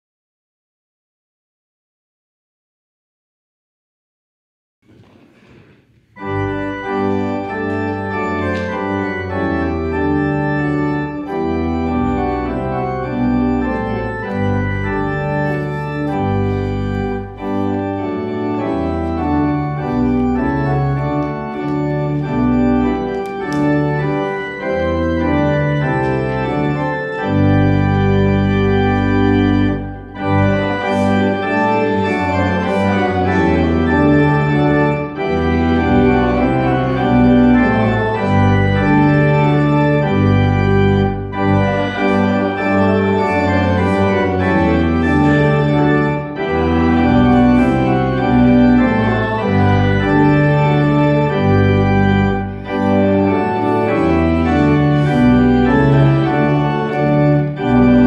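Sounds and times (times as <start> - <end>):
church organ playing chords: 6.2 - 58.0.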